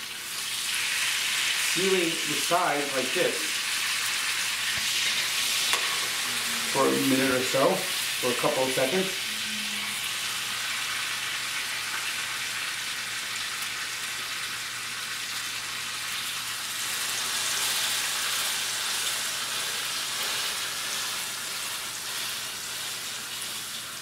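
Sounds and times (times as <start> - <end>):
steak sizzling in a frying pan: 0.0 - 24.0.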